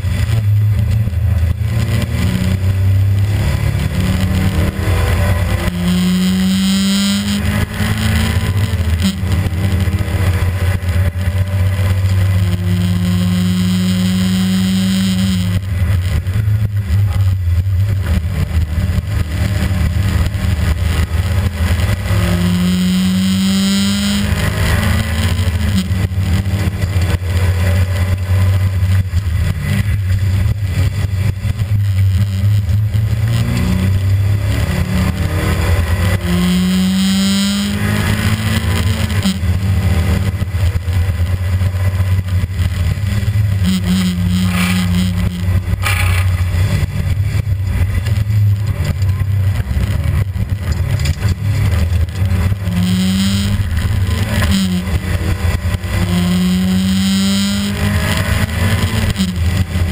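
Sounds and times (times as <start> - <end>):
car engine revving at speed: 0.0 - 59.9.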